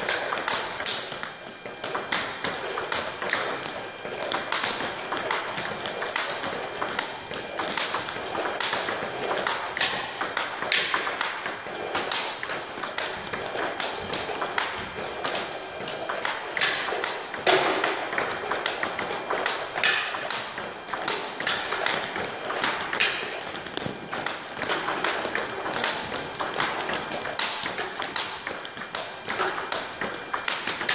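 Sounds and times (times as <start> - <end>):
table tennis ball rally: 0.0 - 30.9.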